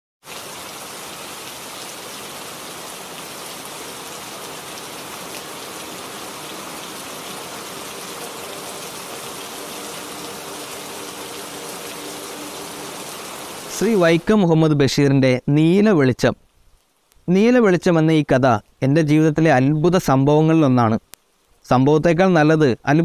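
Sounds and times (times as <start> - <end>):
steady rain: 0.2 - 23.0.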